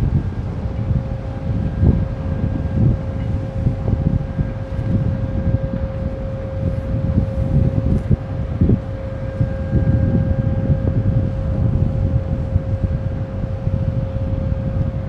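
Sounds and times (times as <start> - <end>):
ship engine hum: 0.0 - 15.0
wind buffeting microphone: 0.0 - 15.0.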